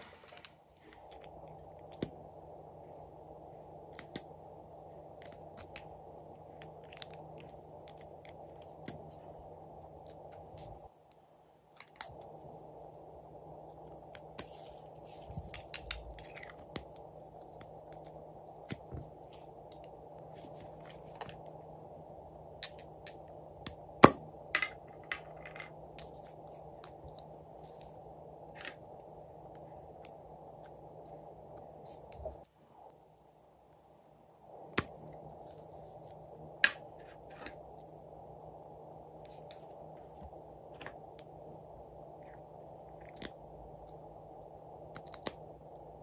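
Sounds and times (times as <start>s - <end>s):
steady low hiss: 0.0s - 46.0s.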